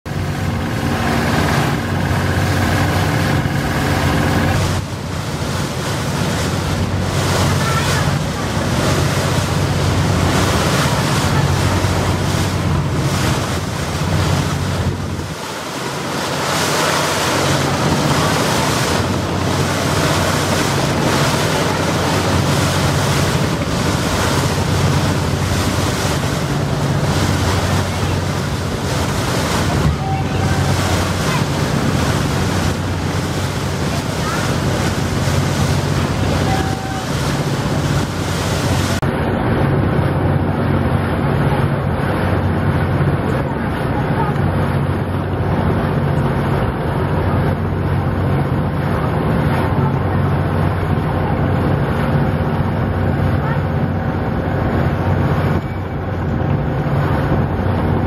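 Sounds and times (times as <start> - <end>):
low boat engine drone: 0.0 - 58.0
rushing river water: 0.1 - 58.0
wind buffeting microphone: 0.1 - 58.0.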